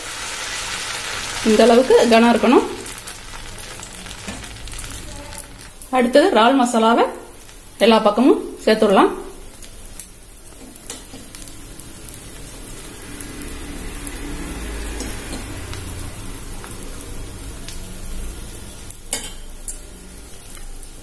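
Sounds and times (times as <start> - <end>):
batter sizzling on a hot griddle: 0.0 - 21.0.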